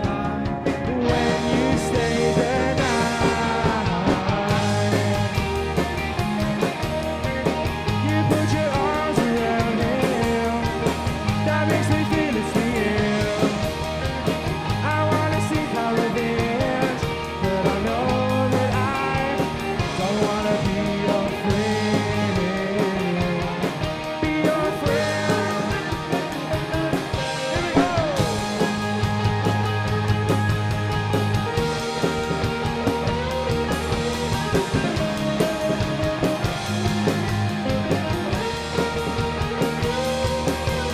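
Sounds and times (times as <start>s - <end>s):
bass guitar: 0.0s - 40.9s
drums: 0.0s - 40.9s
electric guitars: 0.0s - 40.9s.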